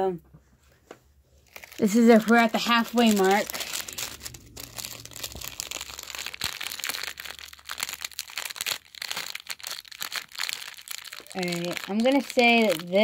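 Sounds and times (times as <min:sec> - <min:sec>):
foil bag crinkling: 0:01.4 - 0:13.0.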